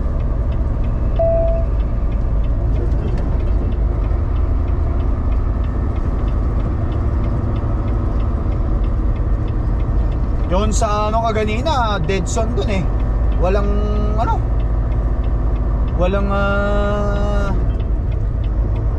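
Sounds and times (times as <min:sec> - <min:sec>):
faint ticking: 0:00.0 - 0:18.9
truck engine and road rumble: 0:00.0 - 0:18.9.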